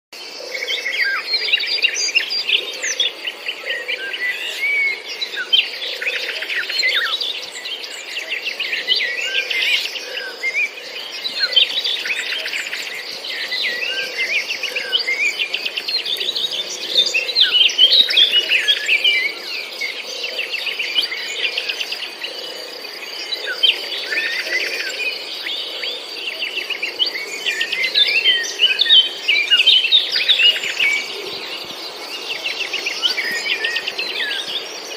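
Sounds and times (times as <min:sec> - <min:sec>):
birds chirping and trilling: 0:00.2 - 0:34.9.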